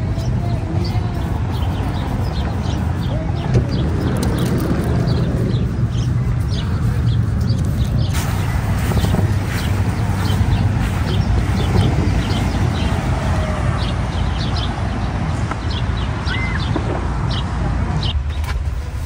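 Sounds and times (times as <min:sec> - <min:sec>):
small birds chirping: 0:00.0 - 0:18.4
steady low rumble: 0:00.0 - 0:19.0.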